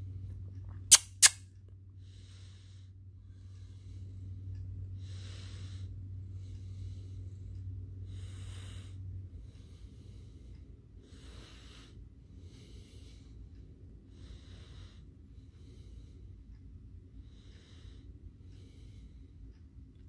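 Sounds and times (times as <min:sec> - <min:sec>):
steady low hum: 0:00.0 - 0:20.0
slow rhythmic breathing: 0:01.8 - 0:20.0.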